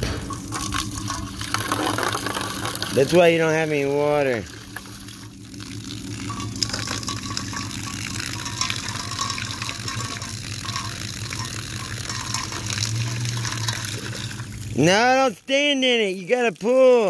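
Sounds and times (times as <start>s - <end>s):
low hum: 0.0s - 14.9s
water splashing into metal bowl: 0.0s - 14.9s.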